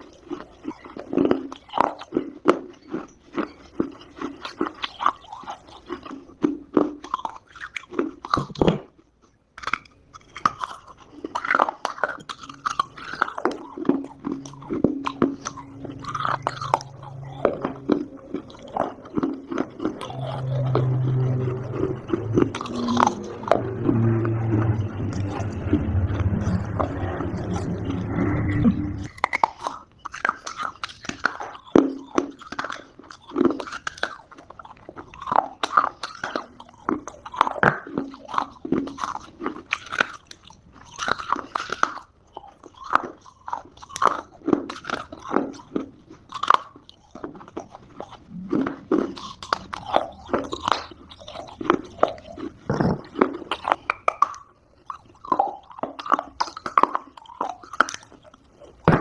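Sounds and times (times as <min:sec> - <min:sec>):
person chewing clay crunchily: 0:00.0 - 0:26.0, 0:29.0 - 0:59.0.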